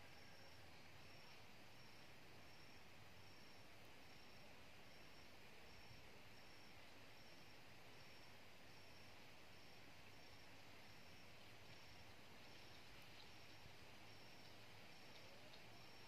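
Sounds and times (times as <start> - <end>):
faint background hiss: 0.0 - 16.0
insect chirping: 0.0 - 16.0.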